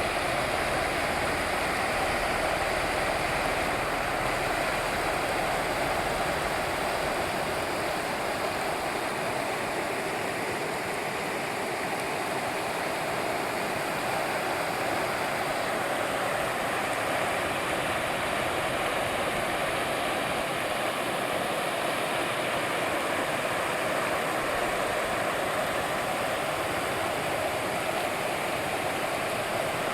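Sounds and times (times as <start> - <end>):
river water rushing: 0.0 - 29.9.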